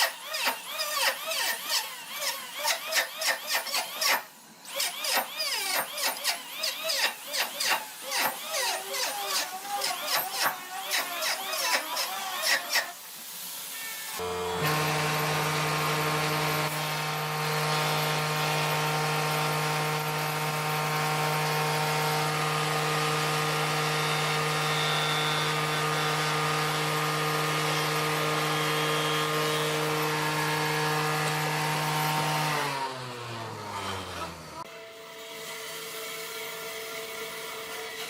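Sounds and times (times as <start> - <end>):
power tool running and spinning down: 0.0 - 34.7.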